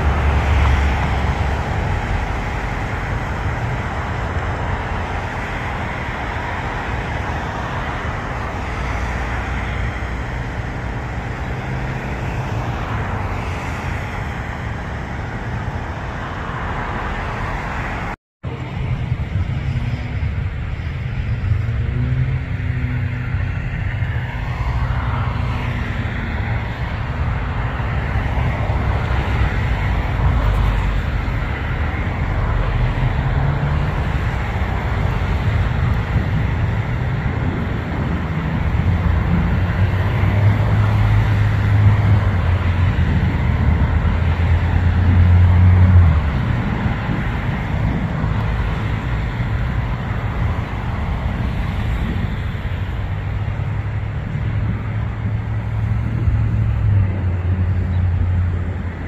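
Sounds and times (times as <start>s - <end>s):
engines and road traffic rumble: 0.0s - 59.0s.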